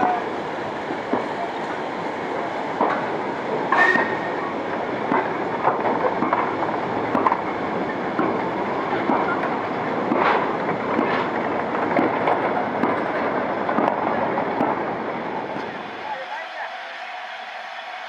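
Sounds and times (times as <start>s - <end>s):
goods train rumbling past: 0.0s - 18.0s
wheels clicking over rail joints: 0.9s - 15.7s.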